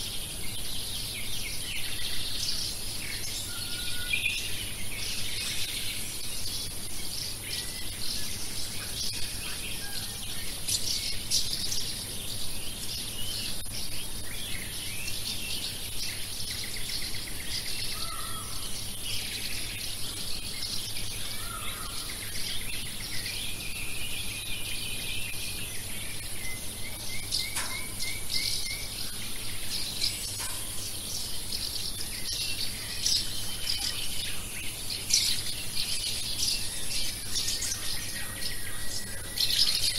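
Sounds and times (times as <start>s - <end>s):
songbirds chirping and trilling: 0.0s - 39.9s
steady high hiss: 0.0s - 39.9s.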